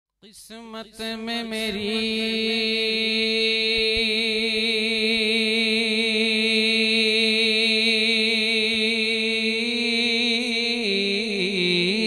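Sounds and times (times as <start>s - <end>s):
man singing a long note: 0.2s - 12.0s.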